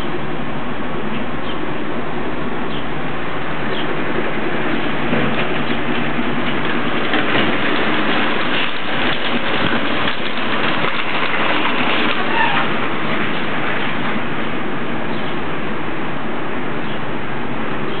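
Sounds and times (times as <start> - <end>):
garbage truck running: 0.0 - 18.0.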